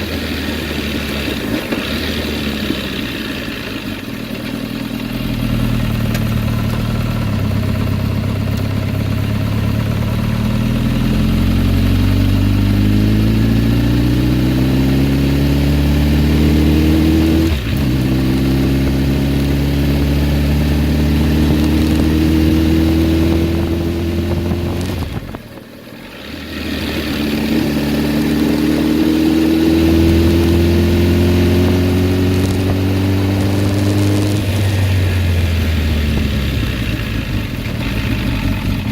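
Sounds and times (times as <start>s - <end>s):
motorcycle engine pitch climbing: 0.0s - 38.9s.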